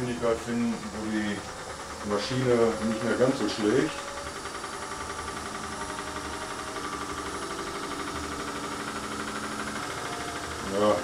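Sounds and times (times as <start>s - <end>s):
wood lathe humming and throbbing: 0.0s - 11.0s.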